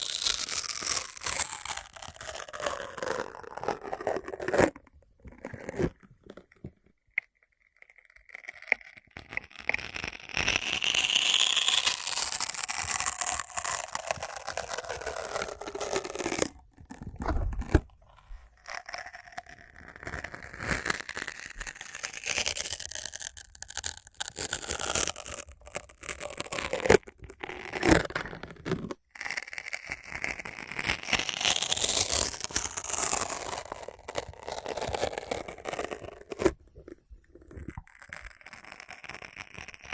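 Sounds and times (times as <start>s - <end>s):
scratching and crinkling rustling: 0.0s - 39.9s.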